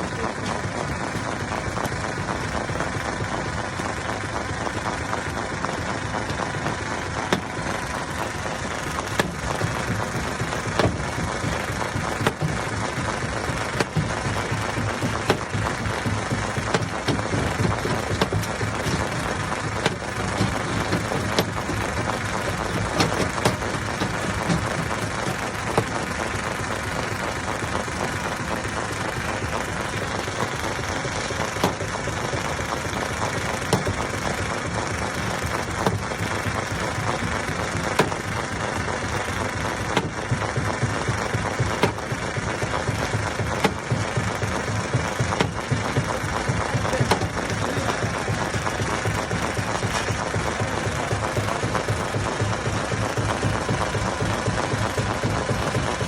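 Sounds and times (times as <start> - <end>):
stone crusher running: 0.0 - 56.0
rocks knocking and breaking: 4.7 - 56.0.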